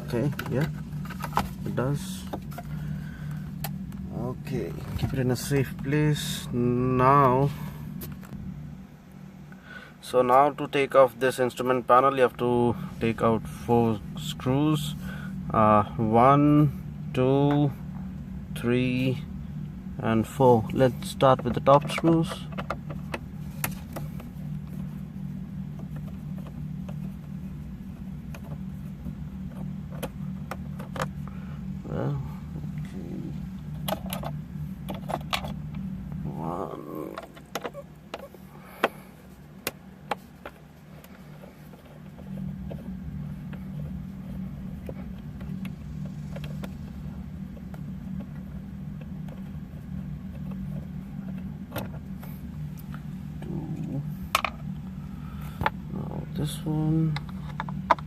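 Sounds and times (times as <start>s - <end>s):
low hum inside car: 0.0s - 58.0s.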